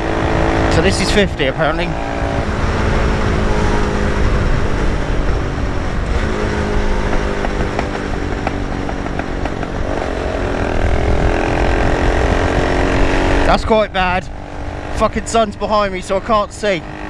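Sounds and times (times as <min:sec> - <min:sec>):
wind rumble on microphone: 0:00.0 - 0:14.9
motorcycle engine running: 0:00.0 - 0:17.0.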